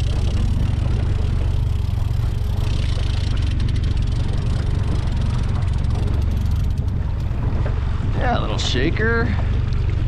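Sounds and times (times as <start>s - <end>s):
outboard motor running: 0.0s - 10.0s
wind on microphone: 0.0s - 10.0s.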